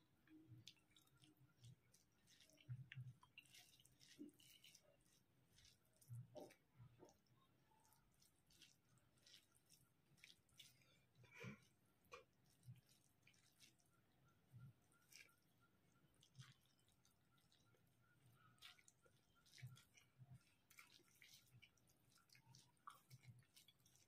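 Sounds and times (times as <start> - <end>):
soft wet chewing: 0.0 - 24.0.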